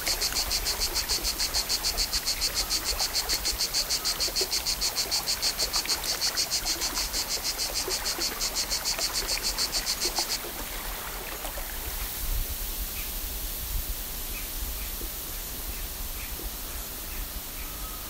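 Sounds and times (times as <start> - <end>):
insect chirping: 0.0 - 18.0
steady outdoor hiss: 0.0 - 18.0.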